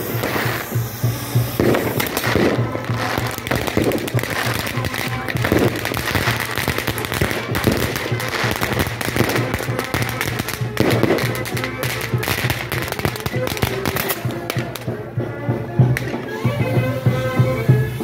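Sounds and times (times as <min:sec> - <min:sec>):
fireworks crackling: 0:00.0 - 0:18.0
music playing: 0:00.0 - 0:18.0.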